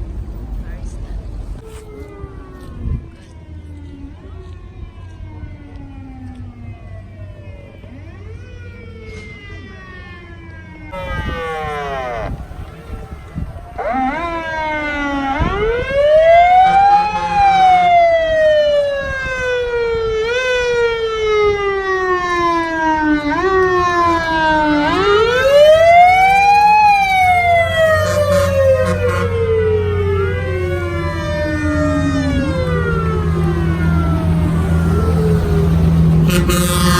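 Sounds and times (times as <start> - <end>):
low engine rumble: 0.0 - 21.7, 22.6 - 36.9
emergency siren wailing: 1.6 - 36.9.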